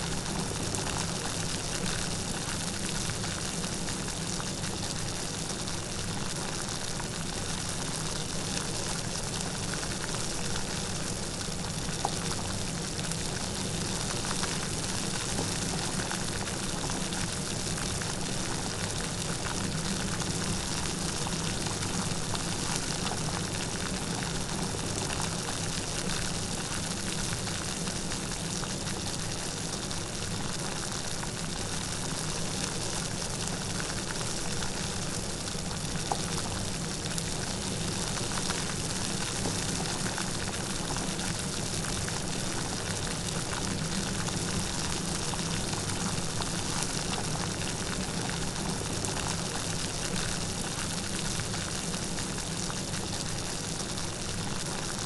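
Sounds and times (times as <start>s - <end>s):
light rain pattering: 0.1s - 55.0s.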